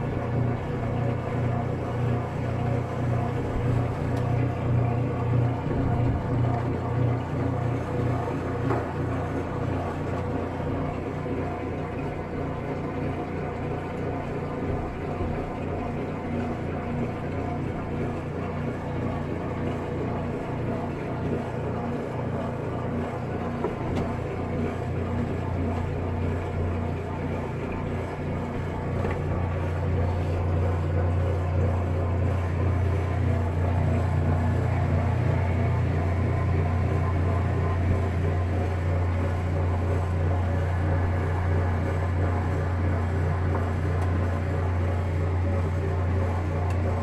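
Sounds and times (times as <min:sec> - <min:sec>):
washing machine motor humming: 0:00.0 - 0:47.0.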